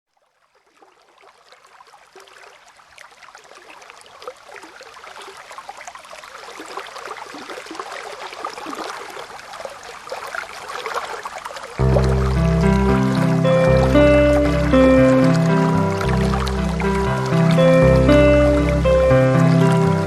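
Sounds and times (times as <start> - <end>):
stream babbling and splashing: 0.2 - 20.0.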